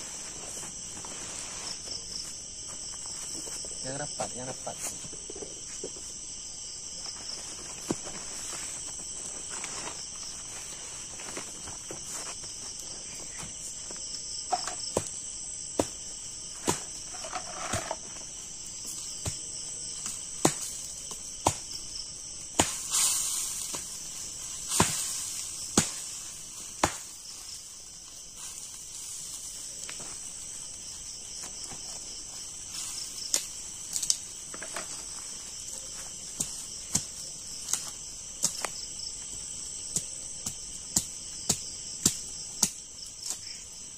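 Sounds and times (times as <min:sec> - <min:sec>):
night insects chirping: 0:00.0 - 0:43.9.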